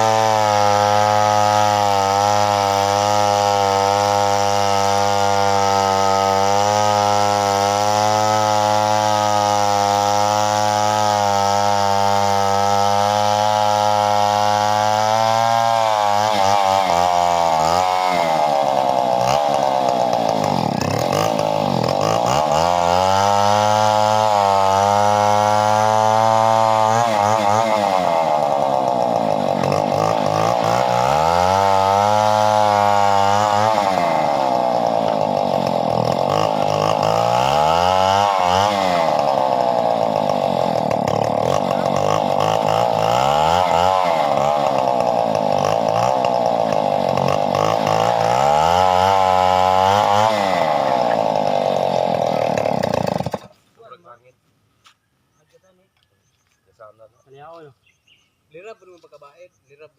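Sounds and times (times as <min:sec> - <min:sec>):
chainsaw cutting wood: 0:00.0 - 0:54.1.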